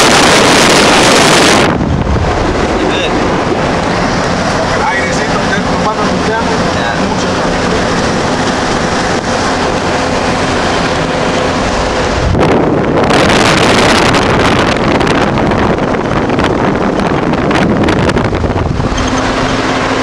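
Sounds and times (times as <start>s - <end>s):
road and engine noise: 0.0s - 20.0s
wind noise rushing: 0.0s - 20.0s.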